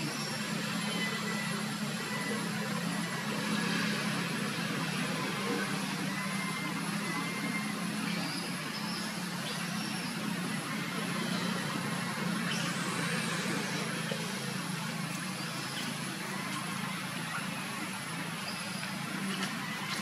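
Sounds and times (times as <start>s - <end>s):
engine humming: 0.0s - 20.0s
outdoor background noise: 0.0s - 20.0s.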